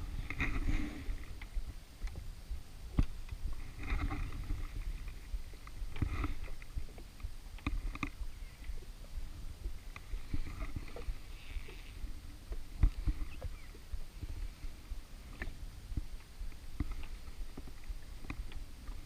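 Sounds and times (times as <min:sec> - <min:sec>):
low steady rumble: 0:00.0 - 0:19.0
small waves lapping against hull: 0:00.0 - 0:19.0.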